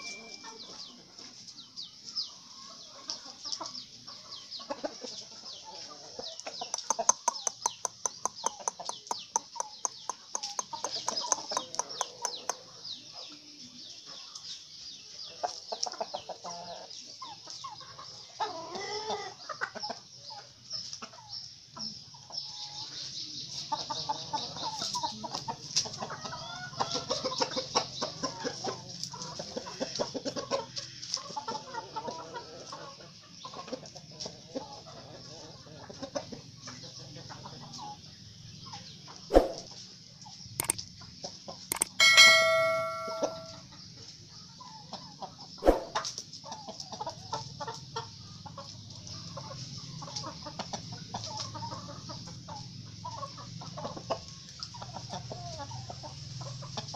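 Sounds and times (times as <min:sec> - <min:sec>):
chickens clucking and calling: 0:00.0 - 0:56.9.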